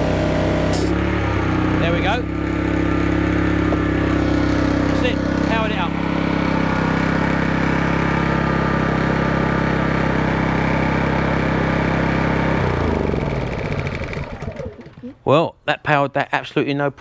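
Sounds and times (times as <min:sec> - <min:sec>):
generator engine running: 0:00.0 - 0:15.4.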